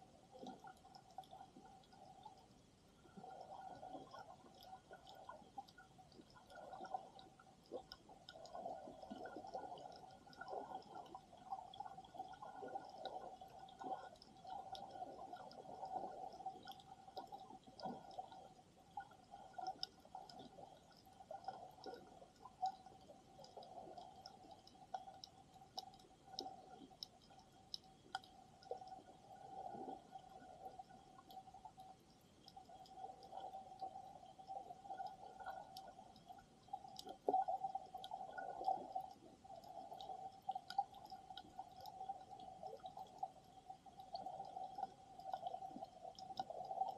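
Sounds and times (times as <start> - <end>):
faint steady hum: 0.0 - 46.9
muffled underwater water movement: 0.0 - 46.9
small clicks and crackles: 0.0 - 46.9.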